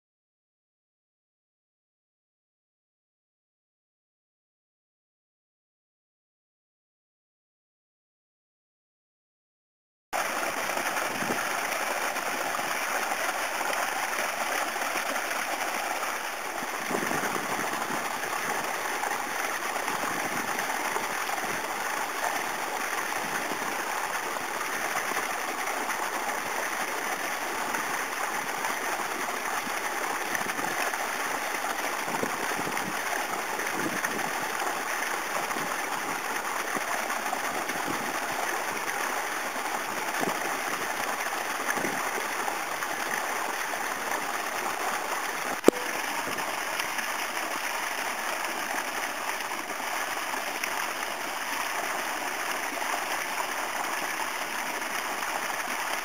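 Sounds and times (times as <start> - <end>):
rushing water: 10.2 - 56.0.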